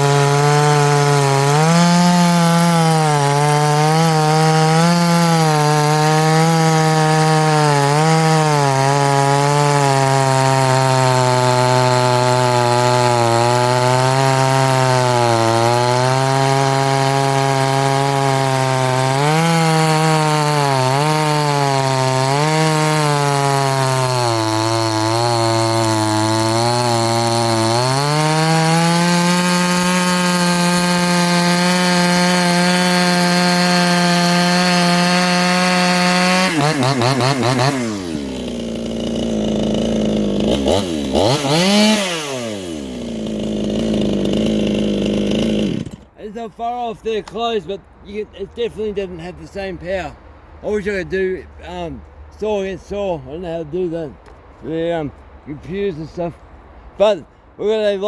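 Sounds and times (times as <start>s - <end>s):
chainsaw cutting through log: 0.0s - 47.9s.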